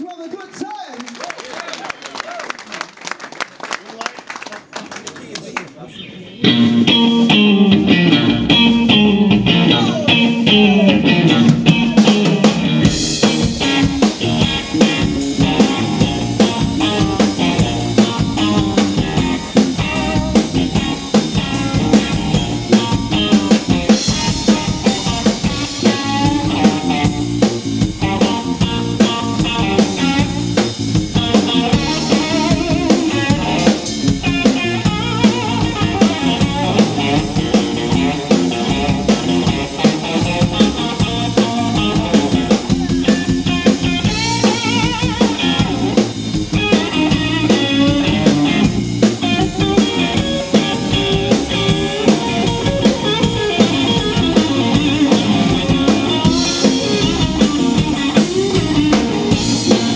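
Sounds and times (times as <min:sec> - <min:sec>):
bass guitar: 0:05.9 - 0:59.9
electric guitar riff: 0:05.9 - 0:59.9
drums with cymbals: 0:09.8 - 0:59.9.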